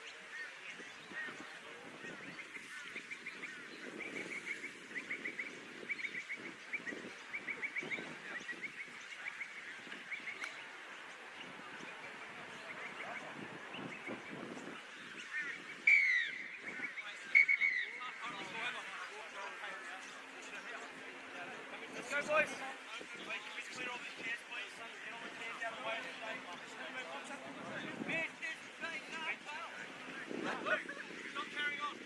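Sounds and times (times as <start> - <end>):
birds chattering: 0.0 - 32.0.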